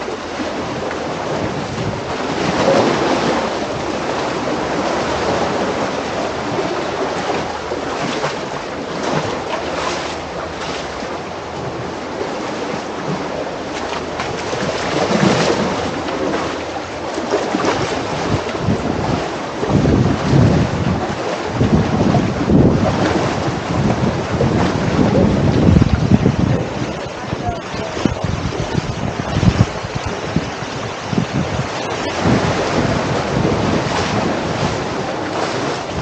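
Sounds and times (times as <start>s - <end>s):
surf washing on shore: 0.0s - 36.0s
wind buffeting microphone: 0.0s - 36.0s.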